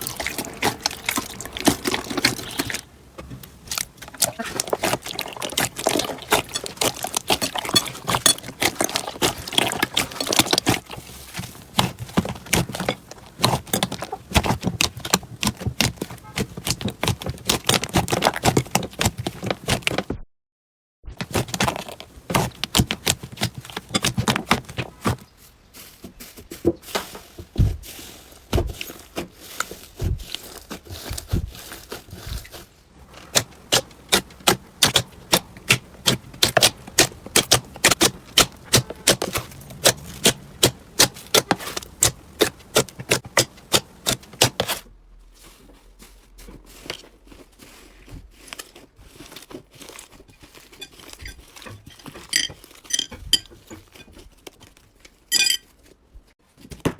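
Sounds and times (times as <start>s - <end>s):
hands squishing slime: 0.0s - 20.0s, 21.2s - 25.2s, 27.6s - 44.8s, 45.4s - 54.4s.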